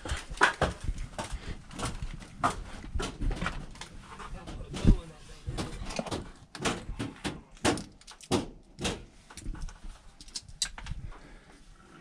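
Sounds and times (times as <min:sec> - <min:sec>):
knocks and bumps on attic boards: 0:00.0 - 0:09.7.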